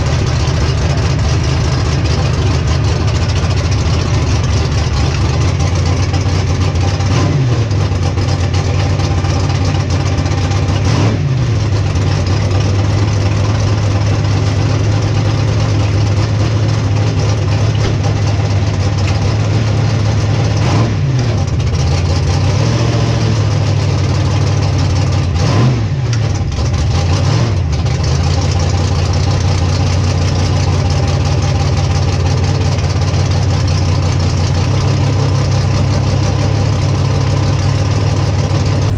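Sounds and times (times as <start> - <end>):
race car engine idling: 0.0 - 38.9.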